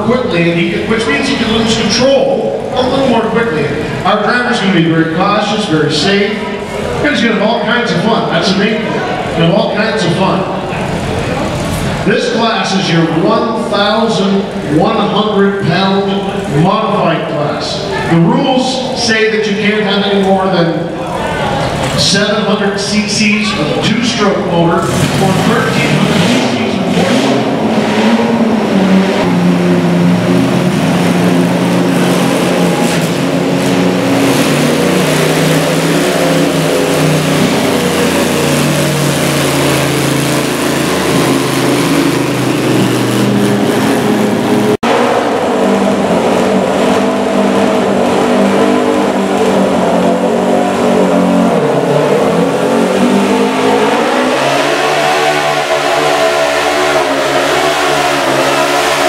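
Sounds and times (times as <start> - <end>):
tractor engine at high revs: 0.0 - 59.0.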